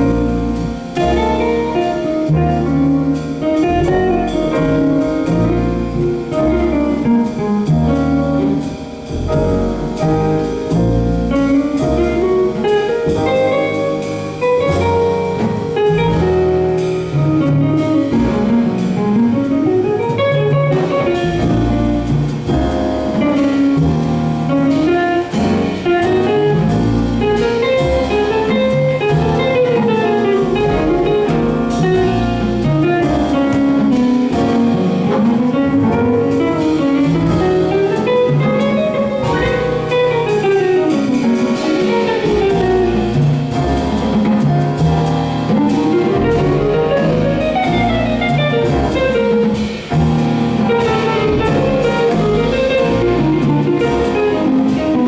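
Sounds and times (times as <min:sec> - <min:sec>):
double bass: 0:00.0 - 0:55.0
drum kit: 0:00.0 - 0:55.0.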